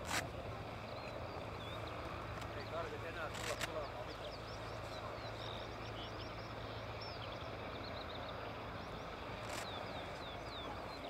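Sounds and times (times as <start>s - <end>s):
distant plane engine hum: 0.0s - 11.0s
small birds chirping: 0.5s - 11.0s.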